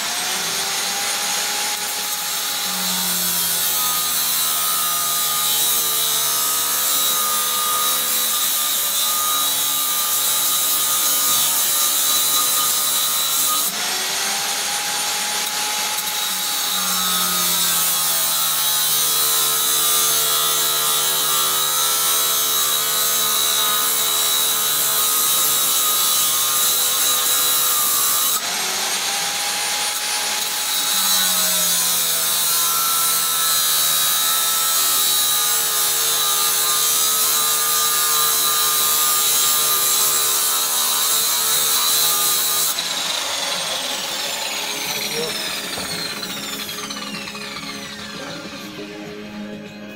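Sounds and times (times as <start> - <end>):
angle grinder cutting steel: 0.0 - 49.9.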